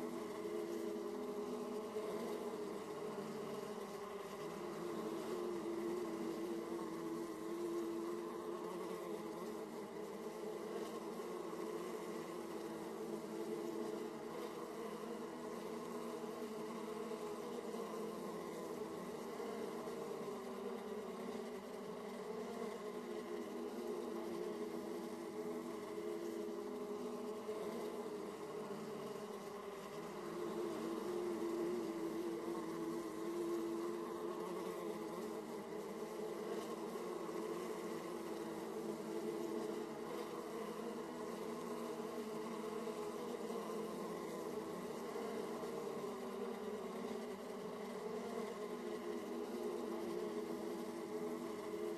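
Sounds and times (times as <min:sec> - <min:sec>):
honeybees buzzing: 0:00.0 - 0:51.9.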